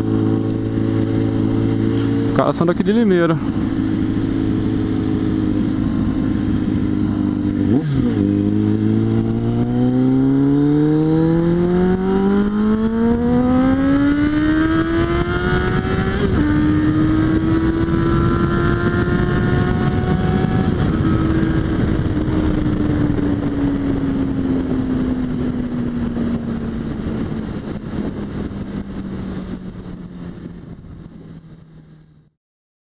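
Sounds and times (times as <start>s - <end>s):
wind rush: 0.0s - 32.1s
motorcycle engine accelerating: 0.0s - 32.4s.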